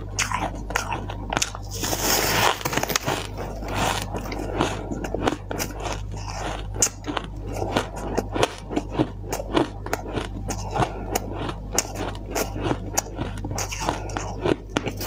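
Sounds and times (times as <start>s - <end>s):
ice crunching: 1.4s - 14.3s.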